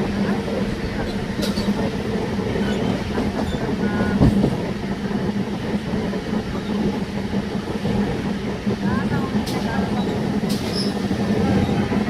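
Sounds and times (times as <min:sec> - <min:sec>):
wheels clattering on track: 0:00.1 - 0:12.0.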